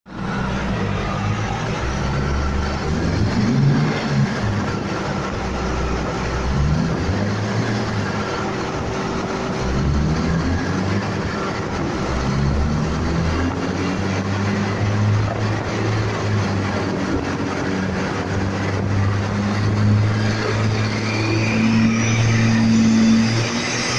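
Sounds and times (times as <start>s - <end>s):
car engine revving on dyno: 0.1s - 23.9s.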